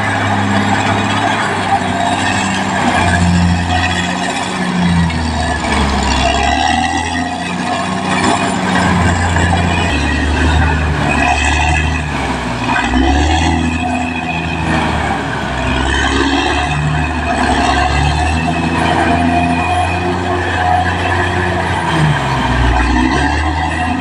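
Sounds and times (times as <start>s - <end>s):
bulldozer diesel engine running: 0.0s - 24.0s
wavering higher tones: 0.4s - 24.0s.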